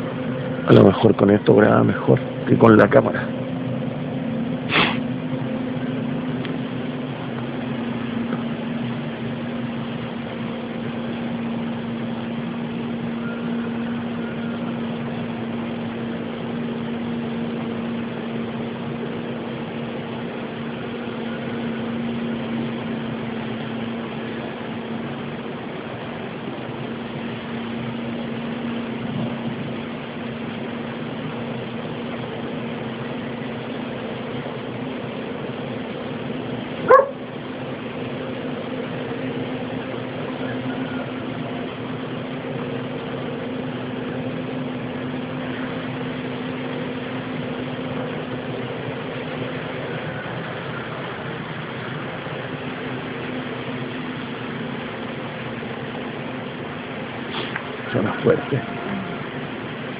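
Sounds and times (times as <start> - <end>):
constant hiss: 0.0 - 59.9
steady low hum: 0.0 - 59.9.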